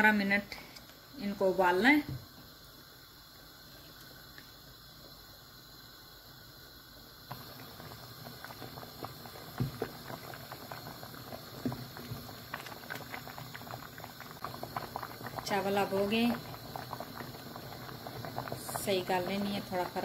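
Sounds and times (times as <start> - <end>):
water boiling and bubbling: 0.0 - 20.0.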